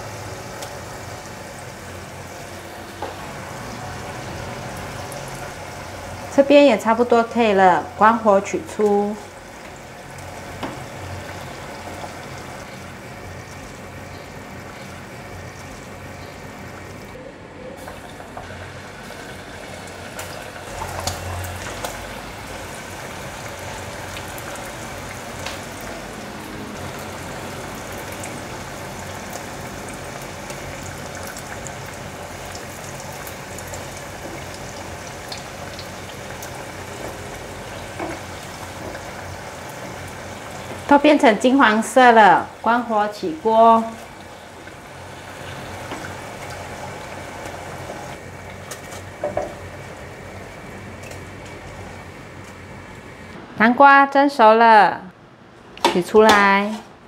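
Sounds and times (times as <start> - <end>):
oil bubbling and sizzling: 0.0 - 17.2, 17.8 - 53.3.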